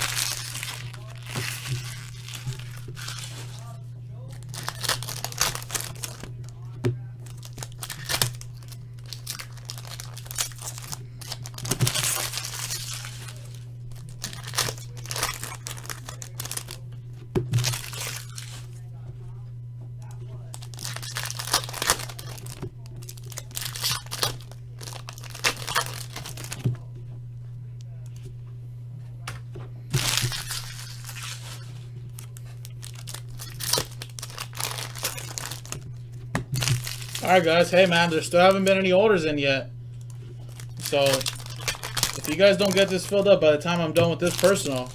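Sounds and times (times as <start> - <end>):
wrappers crinkling and tearing: 0.0 - 16.8, 17.5 - 18.8, 20.4 - 26.9, 29.9 - 39.2, 40.0 - 44.9
steady low hum: 0.0 - 44.9.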